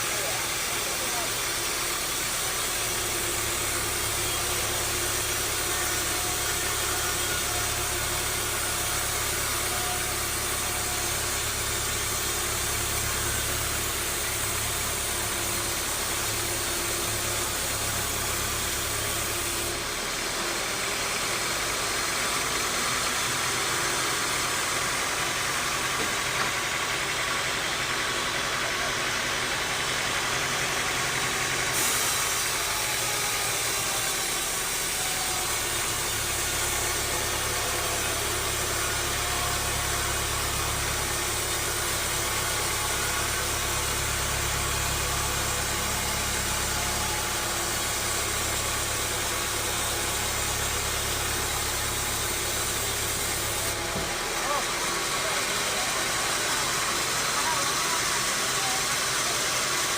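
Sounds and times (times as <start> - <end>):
sawmill machinery motor hum: 0.0 - 59.9.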